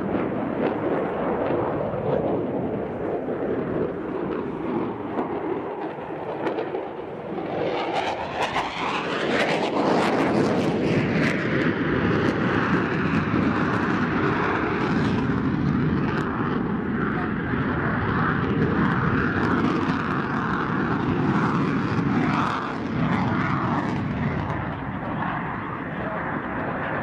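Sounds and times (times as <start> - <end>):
jet engine roar overhead: 0.0 - 27.0.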